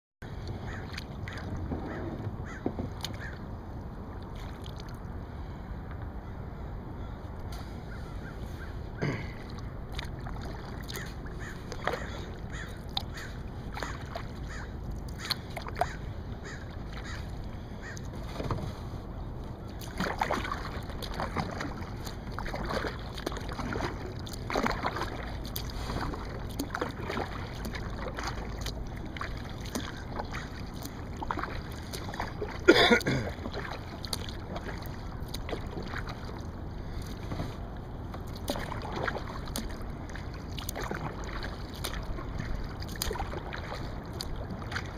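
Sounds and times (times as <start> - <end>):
steady low rumble: 0.2 - 44.9
paddle splashing in water: 0.3 - 5.6, 7.5 - 44.9.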